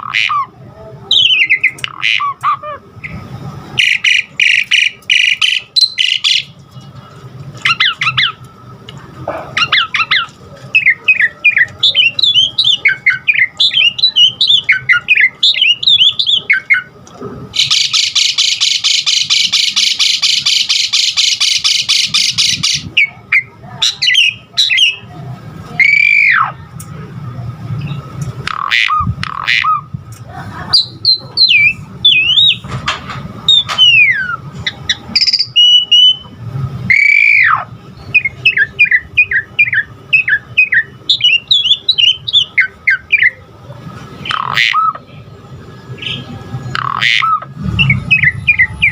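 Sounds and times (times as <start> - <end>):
harsh rattling chatter: 0.0 - 48.9.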